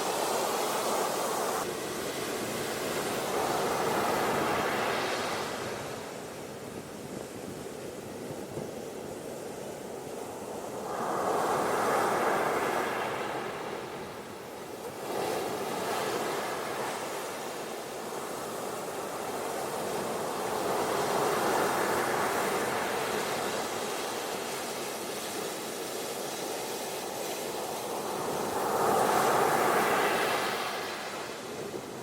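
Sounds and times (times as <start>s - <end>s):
ocean waves washing onto beach: 0.0s - 32.0s.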